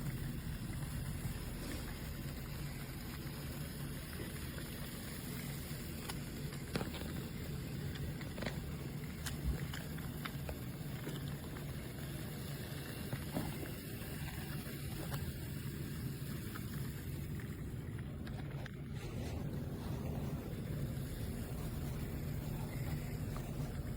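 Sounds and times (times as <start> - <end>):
toy train motor hum: 0.0 - 23.9.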